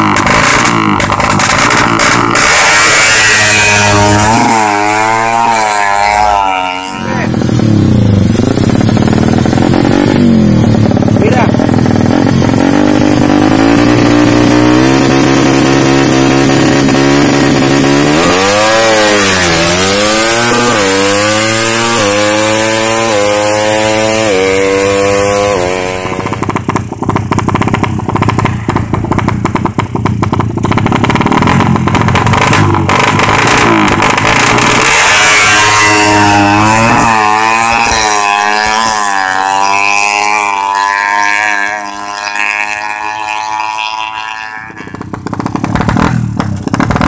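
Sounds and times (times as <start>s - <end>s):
motorcycle engine revving through gears: 0.0s - 47.0s
rough crackling engine note: 0.0s - 47.0s.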